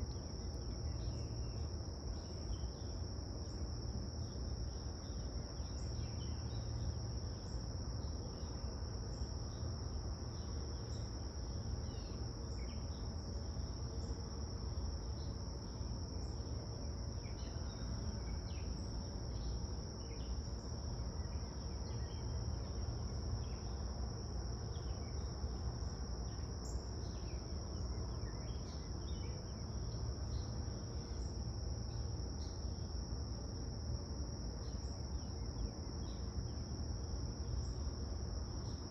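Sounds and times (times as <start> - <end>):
high-pitched insect trill: 0.0 - 38.9.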